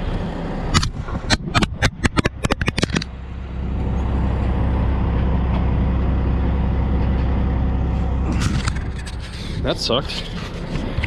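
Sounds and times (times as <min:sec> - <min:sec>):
truck diesel engine rumble: 0:00.0 - 0:11.0.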